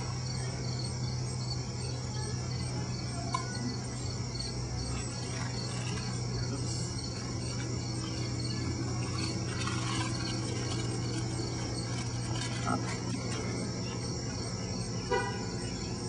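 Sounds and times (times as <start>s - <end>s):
insects chirping: 0.0s - 16.0s
low hum: 0.0s - 16.0s.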